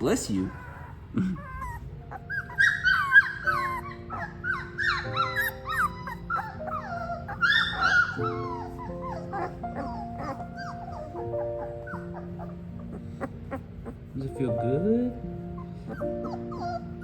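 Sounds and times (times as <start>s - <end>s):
background music with held notes: 0.0s - 17.0s
puppies whining and yelping: 0.0s - 17.0s.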